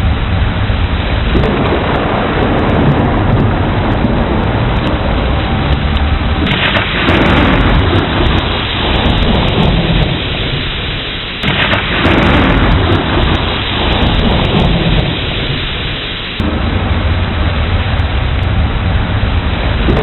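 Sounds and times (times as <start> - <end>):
heavy rain: 0.0 - 20.0
thunder rolling: 0.0 - 20.0.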